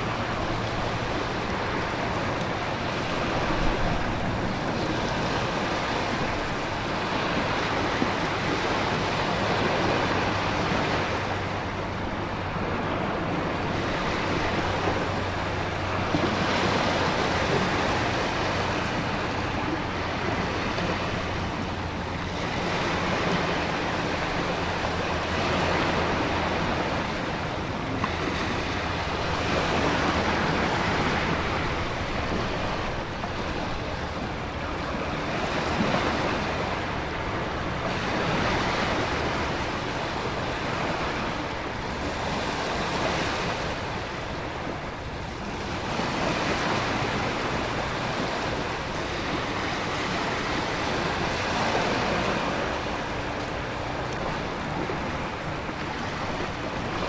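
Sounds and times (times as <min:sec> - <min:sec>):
storm surf waves: 0:00.0 - 0:57.0
wind: 0:00.0 - 0:57.0.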